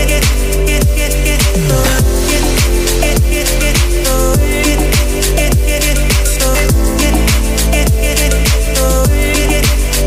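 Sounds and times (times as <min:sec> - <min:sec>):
electronic music with beat: 0:00.0 - 0:10.0
quick hi-hats: 0:00.0 - 0:10.0
deep kick drum: 0:00.2 - 0:10.0.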